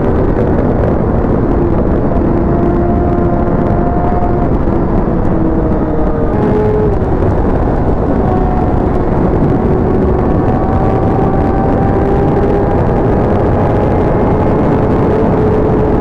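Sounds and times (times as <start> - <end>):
motorcycle engine: 0.0 - 16.0
wind rush over microphone: 0.0 - 16.0.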